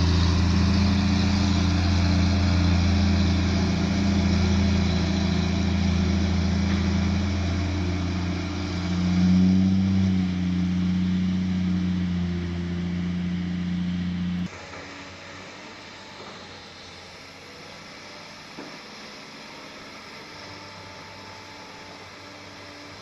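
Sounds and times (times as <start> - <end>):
heavy machine diesel engine running: 0.0 - 23.0.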